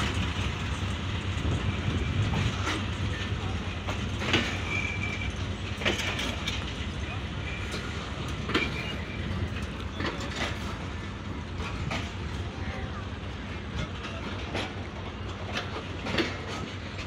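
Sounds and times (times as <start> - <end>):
train coaches rumbling: 0.0 - 17.0
train wheels clacking over rail joints: 0.0 - 17.0.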